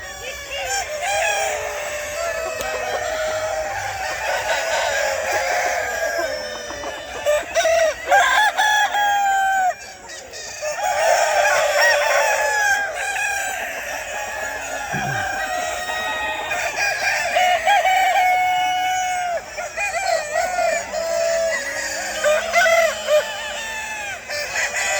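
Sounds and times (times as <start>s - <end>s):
chickens clucking and calling: 0.0s - 24.9s.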